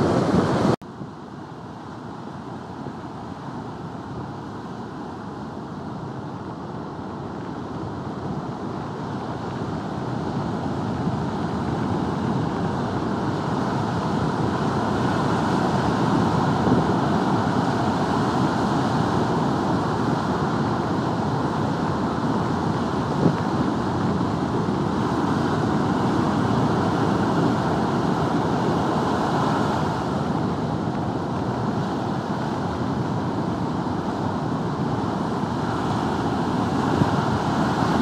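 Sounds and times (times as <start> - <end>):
heavy surf breaking: 0.0 - 0.8, 6.7 - 38.0
wind on microphone: 0.0 - 38.0.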